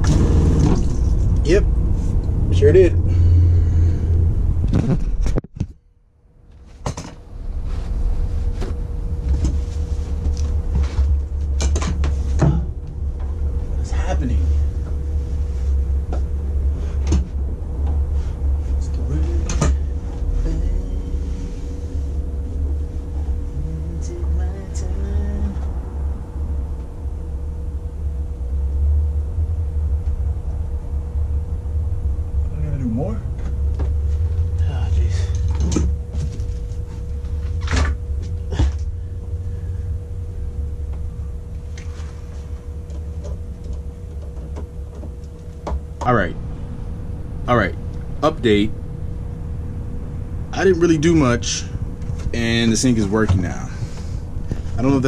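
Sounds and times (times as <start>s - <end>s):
low rumble: 0.0s - 55.0s
steady low hum: 0.0s - 55.0s.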